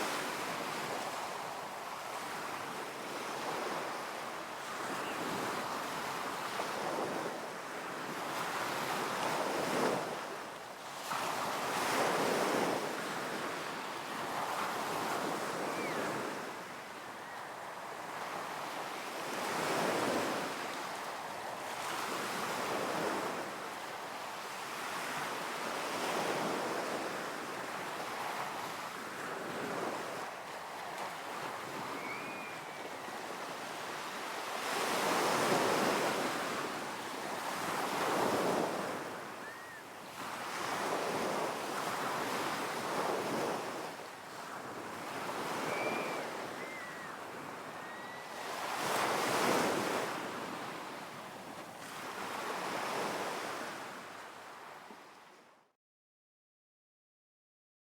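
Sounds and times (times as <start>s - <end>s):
waves breaking on a beach: 0.0s - 55.6s.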